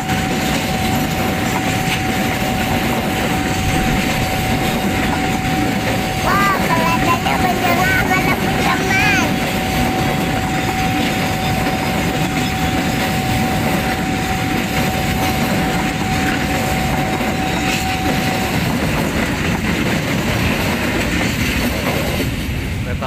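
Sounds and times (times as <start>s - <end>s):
freight train rolling on rails: 0.0s - 23.0s.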